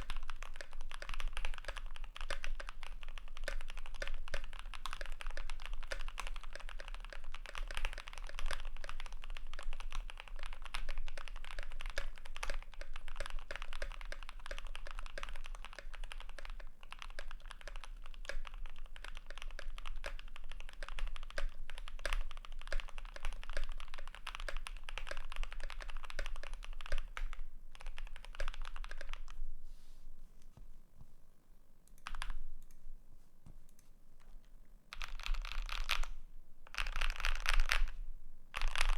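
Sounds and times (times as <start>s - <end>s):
fast typing on mechanical keyboard: 0.0s - 29.4s, 31.9s - 32.7s, 34.9s - 38.0s, 38.6s - 38.9s.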